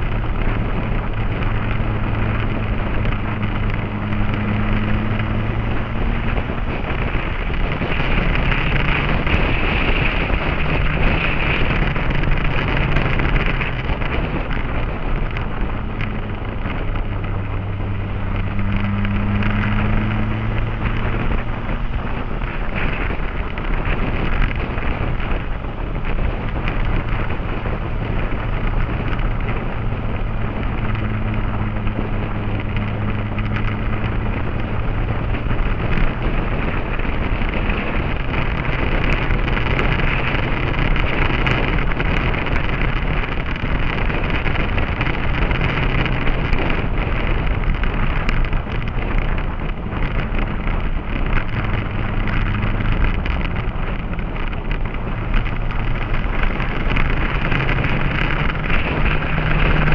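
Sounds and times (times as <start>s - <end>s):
motorcycle engine drone: 0.0s - 59.9s
wind rushing over microphone: 0.0s - 59.9s.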